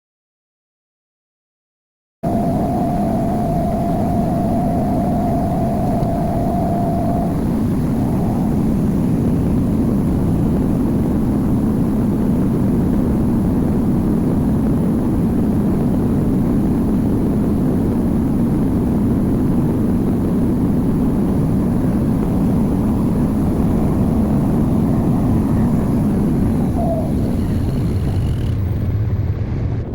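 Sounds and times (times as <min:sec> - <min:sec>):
thin steady whine: 0:02.2 - 0:29.9
washing machine rumble and whir: 0:02.2 - 0:29.9.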